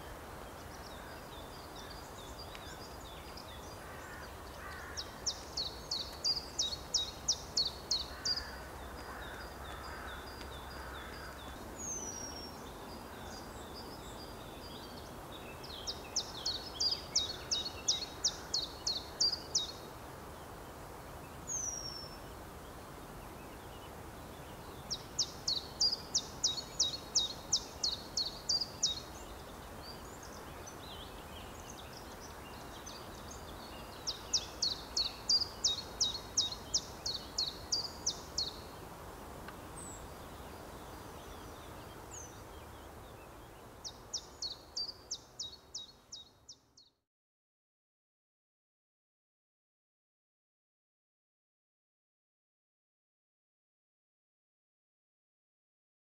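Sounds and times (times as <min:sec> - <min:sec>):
songbird singing: 0:00.0 - 0:47.0.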